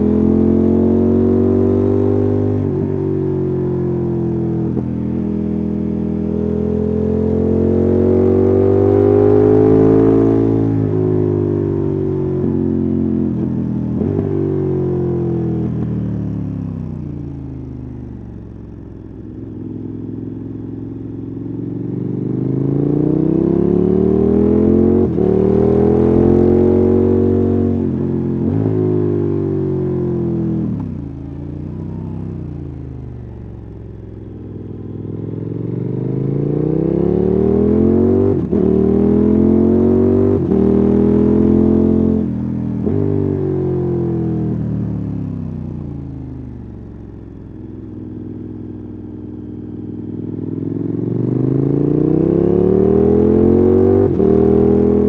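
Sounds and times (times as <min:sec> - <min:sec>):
motorcycle engine and exhaust: 0:00.0 - 0:55.0.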